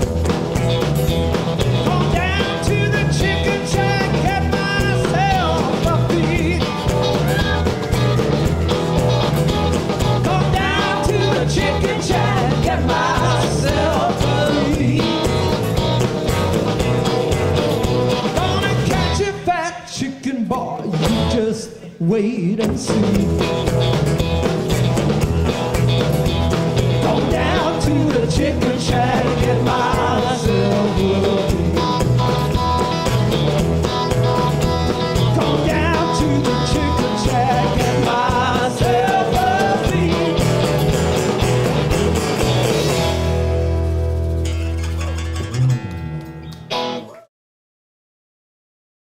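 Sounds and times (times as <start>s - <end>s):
blues-rock band playing: 0.0s - 19.5s, 20.8s - 21.6s, 22.6s - 47.2s
drums: 0.0s - 47.3s.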